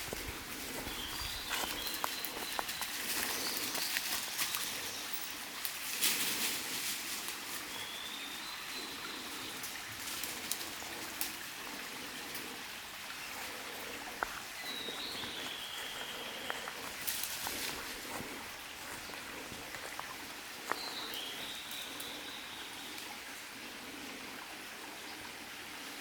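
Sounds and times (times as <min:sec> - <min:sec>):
small ticks and crackles: 0:00.0 - 0:23.1
steady hiss: 0:00.0 - 0:26.0.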